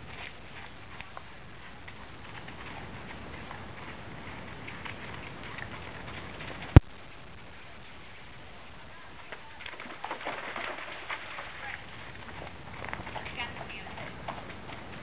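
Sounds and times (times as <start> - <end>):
horse hoofbeats on leaves: 0.0 - 6.8, 9.2 - 15.0
steady outdoor hiss: 0.0 - 15.0.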